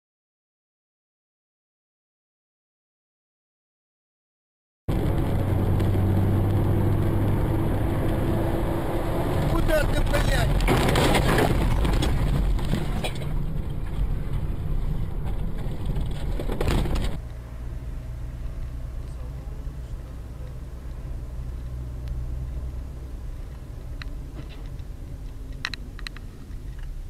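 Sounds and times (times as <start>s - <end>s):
road and engine noise in car: 4.9s - 27.0s.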